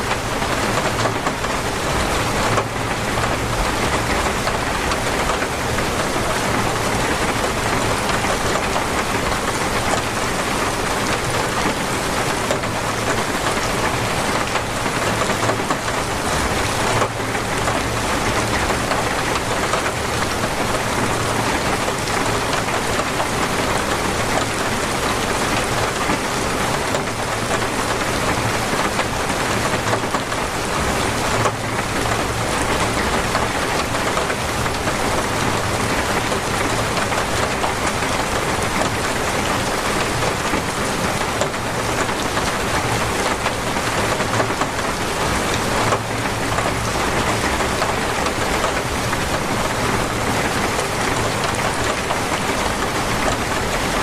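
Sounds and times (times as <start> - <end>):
torrential rain: 0.0 - 54.0.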